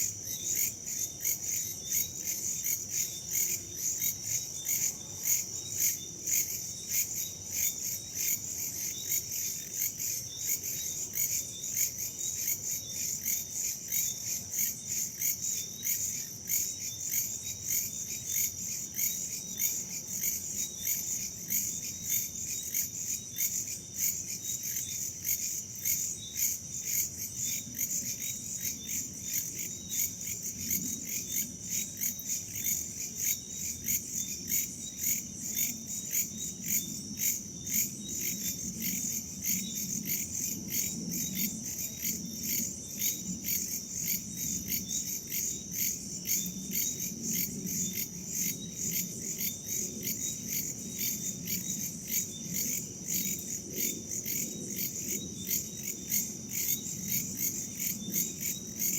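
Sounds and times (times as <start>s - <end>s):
crickets and insects chirping: 0.0s - 58.9s.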